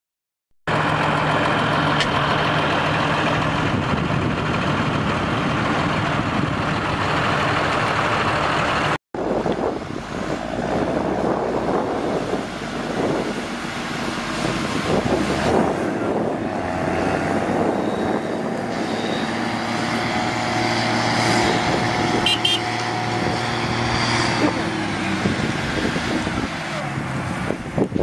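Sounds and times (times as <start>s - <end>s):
heavy truck engine under load: 0.7s - 28.0s
vehicle engine rising and falling: 0.7s - 28.0s.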